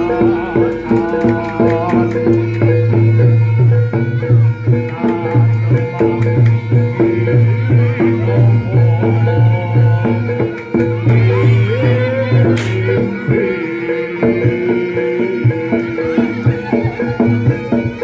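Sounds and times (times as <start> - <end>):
gamelan percussion: 0.0 - 18.0
hand drums: 0.0 - 18.0.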